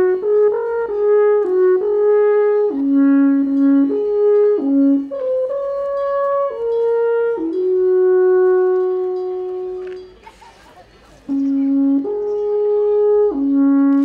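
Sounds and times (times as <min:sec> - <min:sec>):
alphorn playing slow melody: 0:00.0 - 0:10.3, 0:11.3 - 0:14.0.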